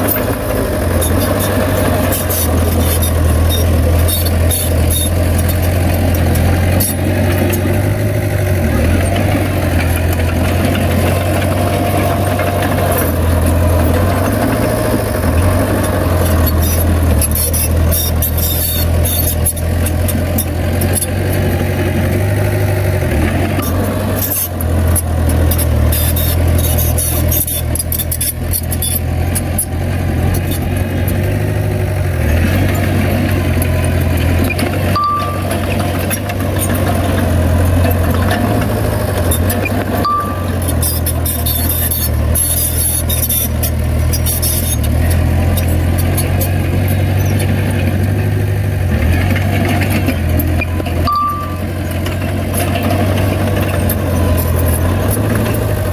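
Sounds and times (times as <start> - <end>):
heavy diesel engine droning: 0.0 - 55.9
sharp metallic clicks and rattles: 0.0 - 55.9.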